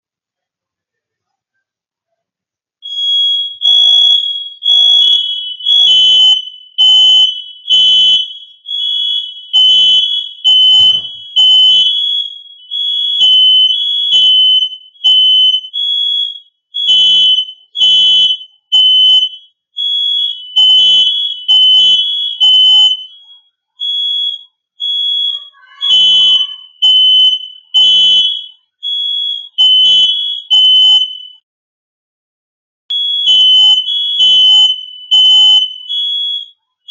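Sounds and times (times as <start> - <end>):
smoke detector beeping: 2.8 - 31.3, 32.9 - 36.9.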